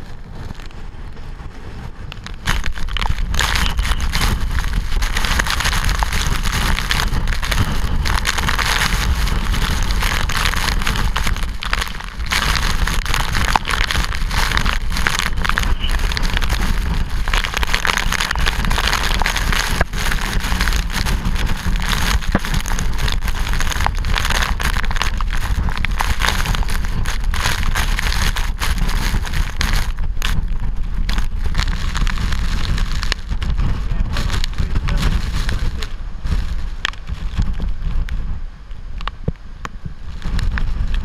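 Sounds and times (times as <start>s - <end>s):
raindrops clicking on camera: 0.0s - 1.2s, 2.1s - 41.0s
rain hiss: 0.0s - 41.0s
wind rumble: 0.0s - 41.0s.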